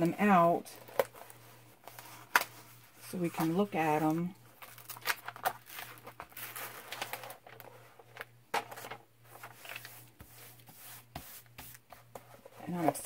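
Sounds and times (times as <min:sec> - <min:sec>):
paper rustling and crinkling: 0:00.8 - 0:13.0.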